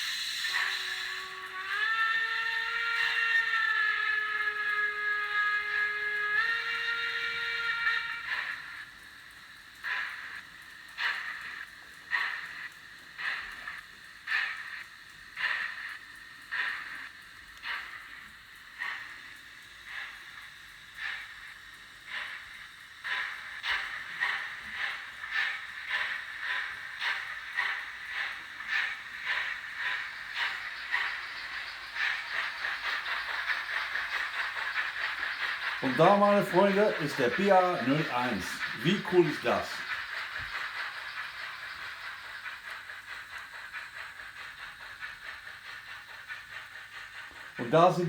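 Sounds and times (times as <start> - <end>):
steam chuffs from tiny speaker: 0.0 - 48.0.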